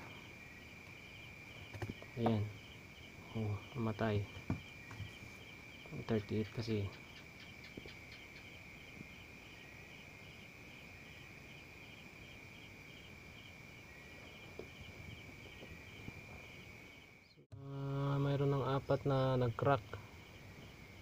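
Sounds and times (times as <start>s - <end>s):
faint cricket chirping: 0.0s - 21.0s.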